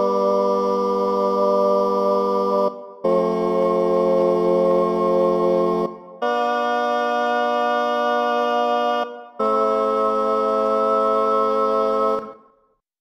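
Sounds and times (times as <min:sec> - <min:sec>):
sustained chords: 0:00.0 - 0:12.4.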